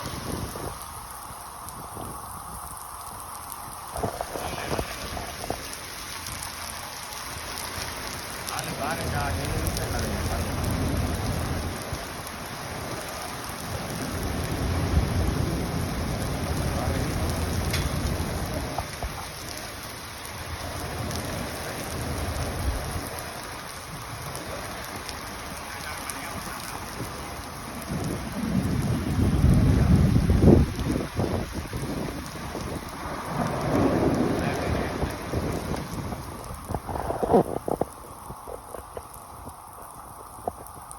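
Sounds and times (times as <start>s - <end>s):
heavy rain falling: 0.0s - 40.9s
thunder rumbling: 0.0s - 40.9s.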